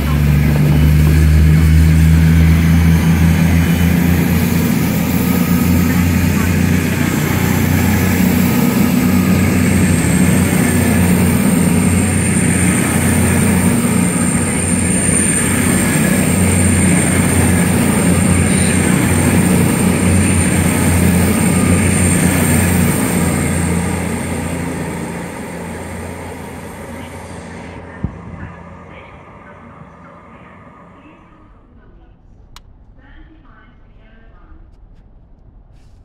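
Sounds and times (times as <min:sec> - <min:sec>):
thin high whine: 0:00.0 - 0:31.6
wheels rushing on rail: 0:00.0 - 0:31.7
low drone: 0:00.0 - 0:32.0.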